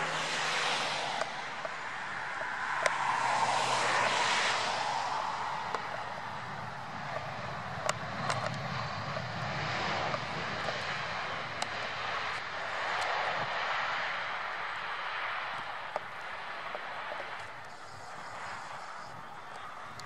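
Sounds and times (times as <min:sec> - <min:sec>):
jet airliner landing: 0:00.0 - 0:20.0.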